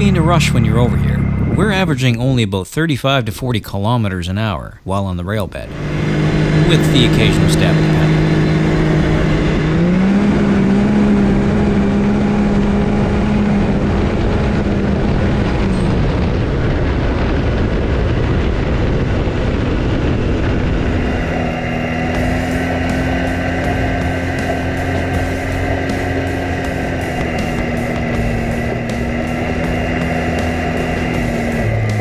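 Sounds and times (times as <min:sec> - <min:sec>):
utility vehicle engine: 0:00.0 - 0:02.5, 0:05.4 - 0:32.0.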